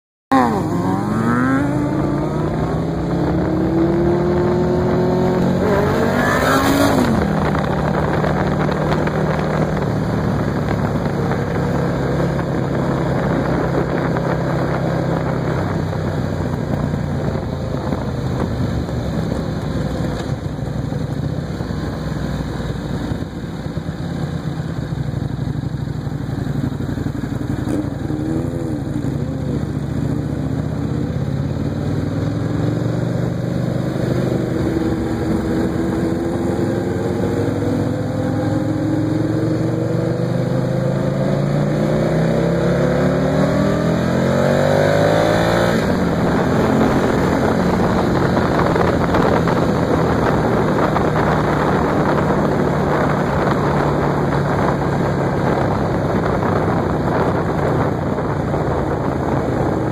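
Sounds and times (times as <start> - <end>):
motorcycle engine revving: 0.3 - 59.9
road noise: 0.3 - 59.9
wind noise: 0.4 - 25.7, 26.3 - 59.9.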